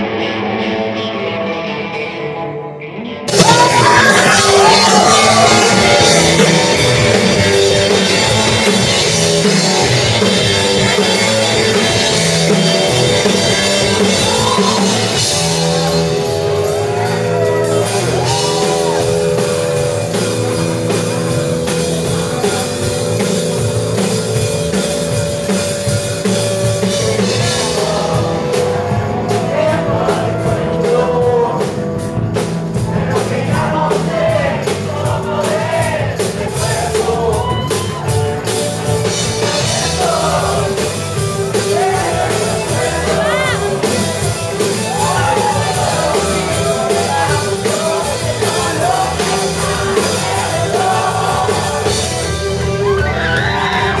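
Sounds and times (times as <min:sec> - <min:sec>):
bass guitar: 0:00.0 - 0:54.0
electric guitars: 0:00.0 - 0:54.0
lead vocal singing: 0:03.3 - 0:19.9, 0:20.8 - 0:23.5, 0:26.3 - 0:38.2, 0:39.0 - 0:54.0
drum kit: 0:03.3 - 0:54.0.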